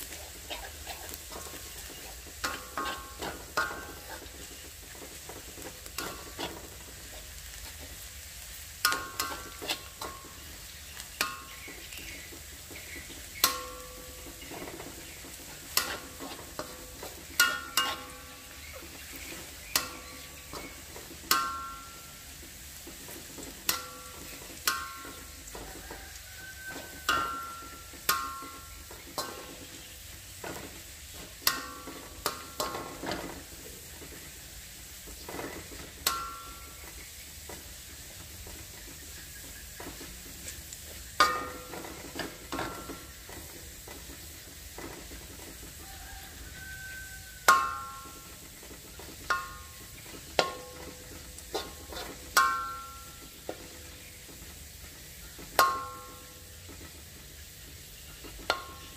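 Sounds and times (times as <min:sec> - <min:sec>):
faint sizzle: 0:00.0 - 0:58.9
metal spatula scraping a wok: 0:00.0 - 0:58.9.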